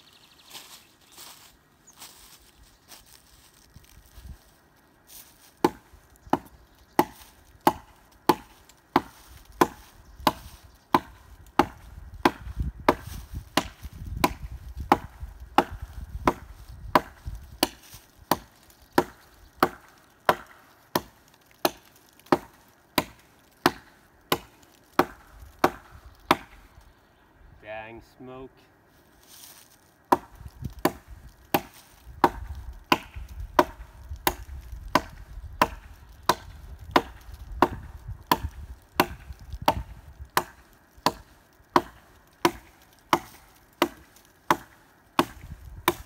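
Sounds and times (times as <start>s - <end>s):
hatchet chopping wood: 5.6s - 26.7s, 30.1s - 46.0s.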